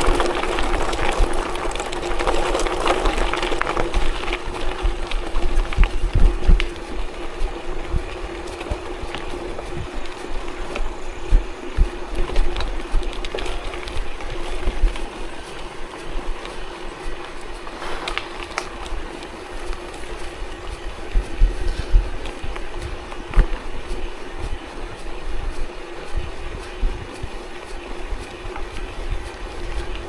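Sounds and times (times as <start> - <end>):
vehicle on unpaved road: 0.0 - 30.0.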